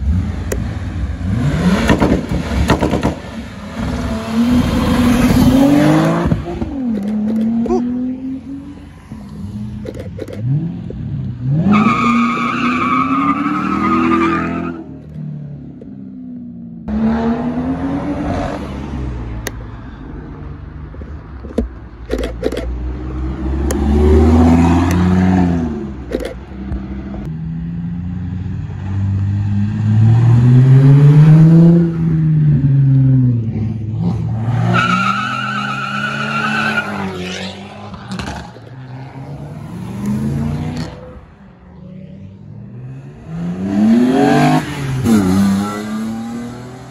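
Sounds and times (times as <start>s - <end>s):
car engines revving past: 0.0s - 21.3s, 21.9s - 46.9s.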